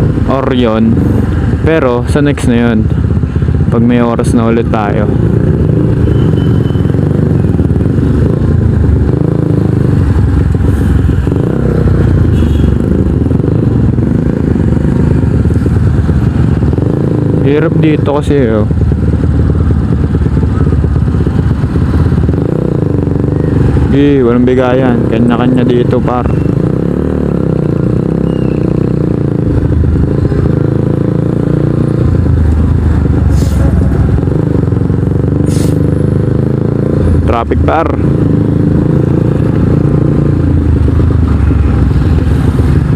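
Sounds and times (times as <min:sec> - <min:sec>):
motorcycle exhaust note: 0:00.0 - 0:42.9
traffic rumble: 0:00.0 - 0:42.9.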